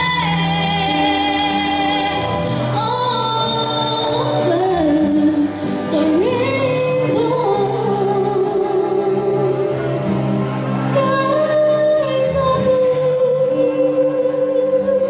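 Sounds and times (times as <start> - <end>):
musical accompaniment: 0.0 - 15.0
woman singing into microphone: 0.0 - 15.0.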